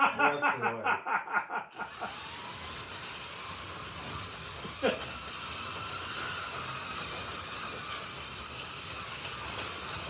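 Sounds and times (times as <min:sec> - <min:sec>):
slot car motor whine: 0:01.7 - 0:10.0.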